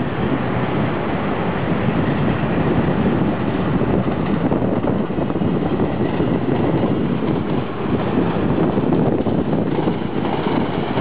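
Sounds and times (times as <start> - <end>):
electric train passing: 0.0 - 11.0
wind buffeting microphone: 0.0 - 11.0.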